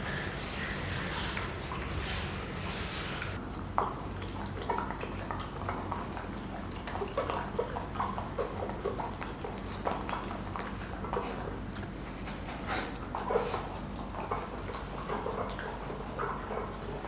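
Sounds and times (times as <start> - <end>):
puppy chewing and licking toy: 0.0 - 17.0.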